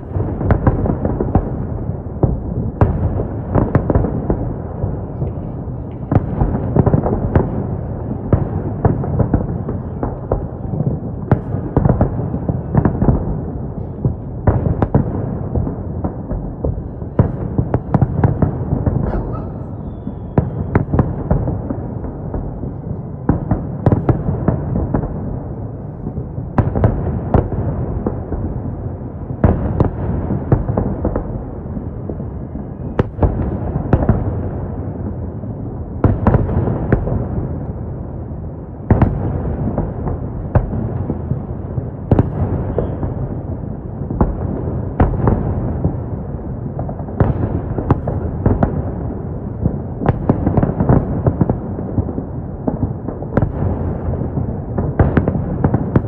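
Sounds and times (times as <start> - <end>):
fireworks bangs: 0.0 - 56.0
low rumble and echo: 0.0 - 56.0.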